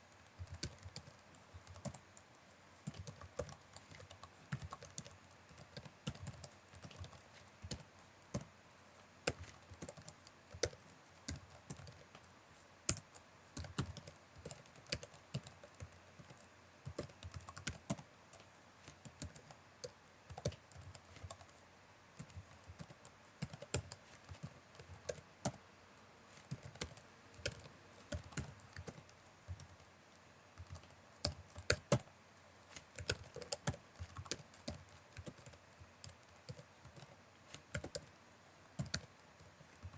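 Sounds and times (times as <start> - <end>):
typing on computer keyboard: 0.0 - 8.5, 9.2 - 12.3, 12.9 - 21.5, 22.2 - 25.6, 26.3 - 29.9, 30.6 - 32.1, 32.7 - 38.1, 38.8 - 39.9.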